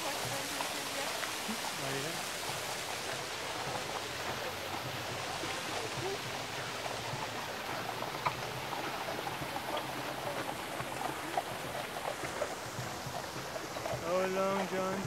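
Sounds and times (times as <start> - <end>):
faint voices: 0.0 - 15.0
fountain water splashing: 0.0 - 15.0.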